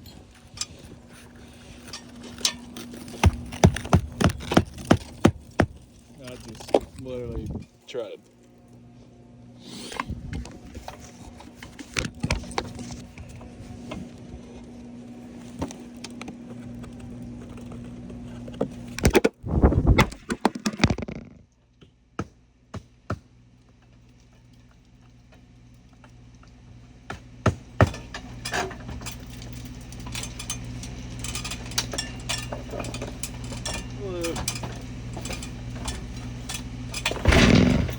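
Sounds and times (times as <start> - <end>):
shingles scraping and crackling: 0.0 - 8.8, 9.8 - 21.4, 23.8 - 37.9
steady low hum: 0.0 - 37.9.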